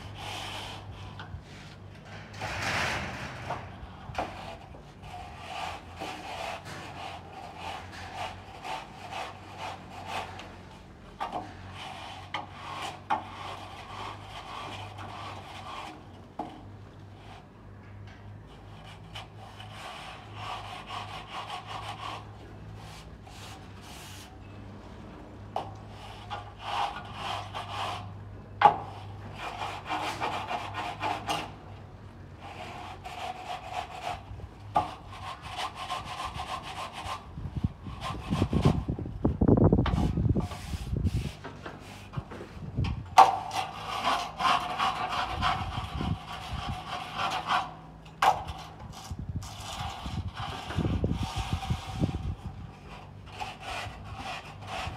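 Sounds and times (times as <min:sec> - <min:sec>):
plastering tool scraping wall: 0:00.0 - 0:24.5, 0:25.5 - 0:31.7, 0:32.4 - 0:54.9.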